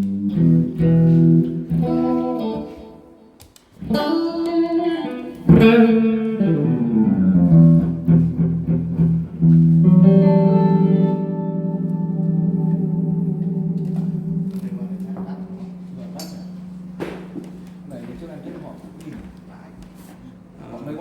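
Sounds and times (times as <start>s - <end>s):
electric guitar through amplifier: 0.0s - 20.7s.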